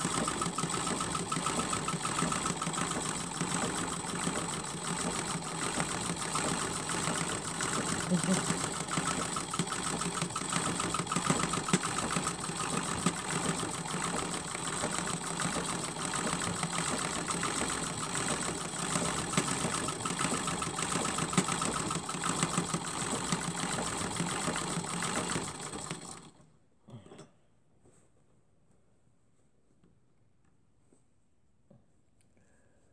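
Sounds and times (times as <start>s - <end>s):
sewing machine stitching: 0.0s - 26.4s.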